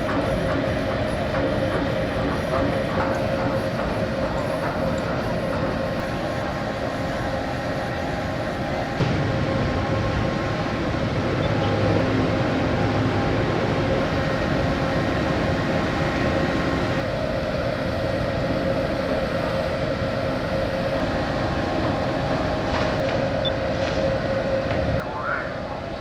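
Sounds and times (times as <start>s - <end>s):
held hum: 0.0s - 26.0s
ship machinery drone: 0.0s - 26.0s.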